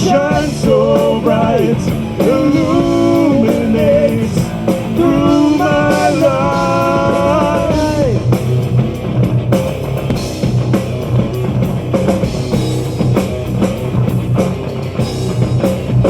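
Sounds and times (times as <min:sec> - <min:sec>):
distorted electric guitars: 0:00.0 - 0:16.0
drum kit: 0:00.0 - 0:16.0.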